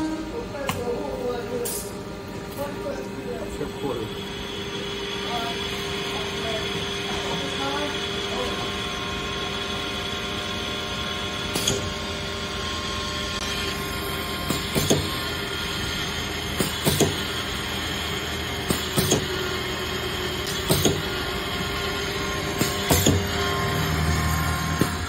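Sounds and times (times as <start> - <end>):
drilling machine humming: 0.0 - 25.0.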